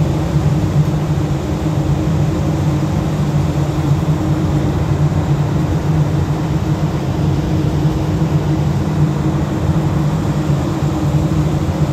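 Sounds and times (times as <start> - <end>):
ship engine droning: 0.0 - 11.9.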